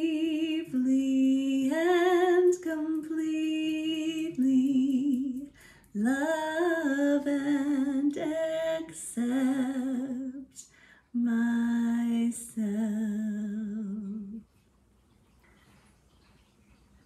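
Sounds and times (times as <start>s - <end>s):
woman singing with vibrato: 0.0s - 10.6s, 11.2s - 14.4s.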